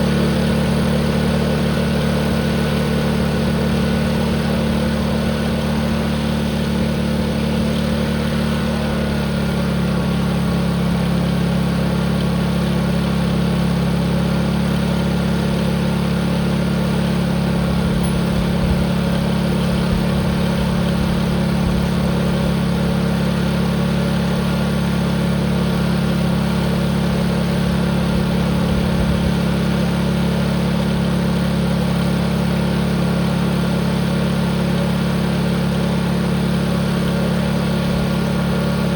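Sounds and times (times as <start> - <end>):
tractor engine at full throttle: 0.0 - 38.9.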